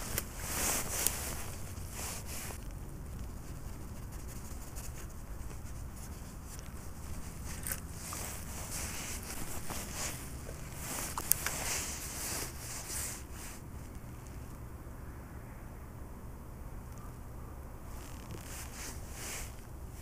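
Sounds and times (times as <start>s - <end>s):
scratchy rustling handling noise: 0.0s - 14.6s, 17.9s - 20.0s
low steady rumble: 0.0s - 20.0s.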